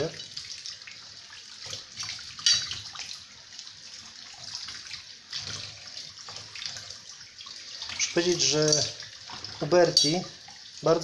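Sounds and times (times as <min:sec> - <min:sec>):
water sloshing in a sink: 0:00.0 - 0:11.0.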